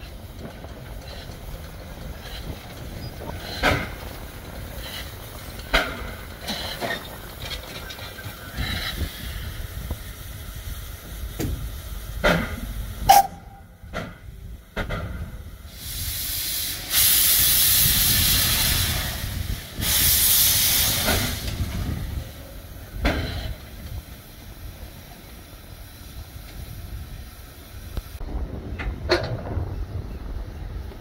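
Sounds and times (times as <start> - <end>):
steam locomotive hissing steam: 0.0 - 31.0.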